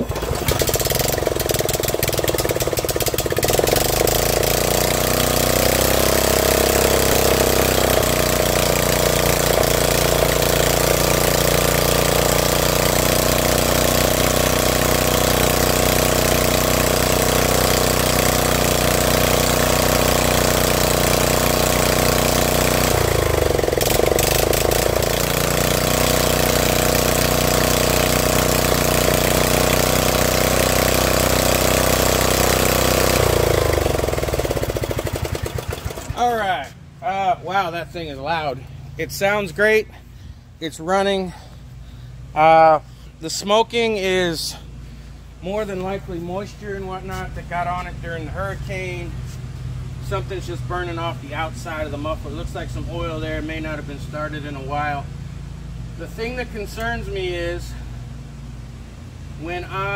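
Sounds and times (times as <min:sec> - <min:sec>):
riding mower engine running: 0:00.0 - 0:59.9.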